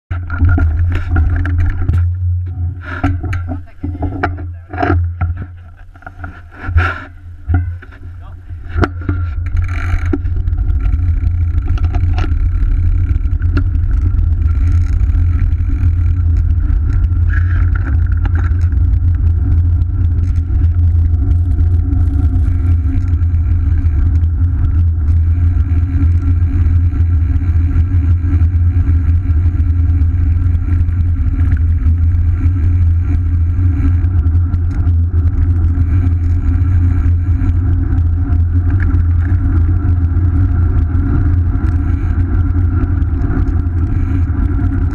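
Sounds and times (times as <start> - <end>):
road noise: 0.1 - 44.9
wind buffeting microphone: 0.2 - 44.9.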